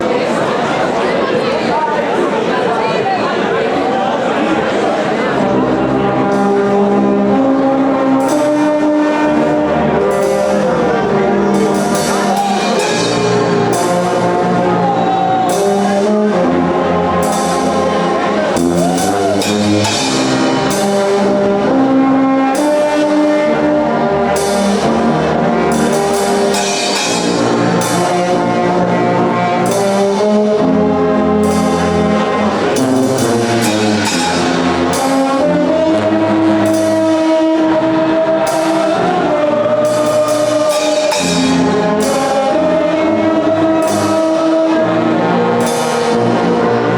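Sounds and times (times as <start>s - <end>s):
loud brass band: 4.5s - 46.9s
drums and cymbals beat: 8.0s - 46.9s.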